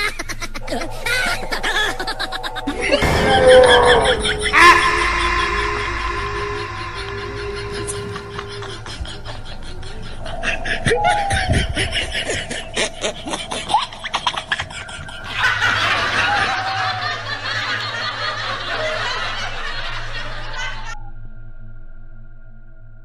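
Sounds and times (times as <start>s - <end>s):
snickering laughter: 0.0s - 21.0s.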